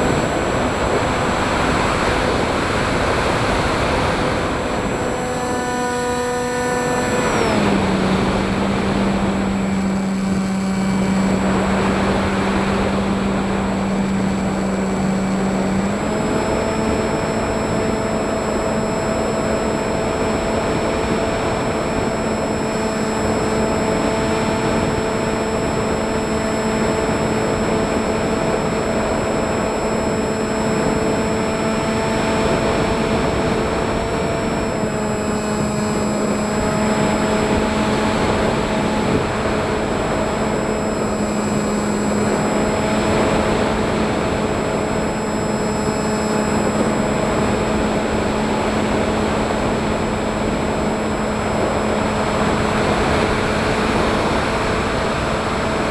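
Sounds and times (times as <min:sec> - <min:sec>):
electric motors and propellers whining: 0:00.0 - 0:55.9.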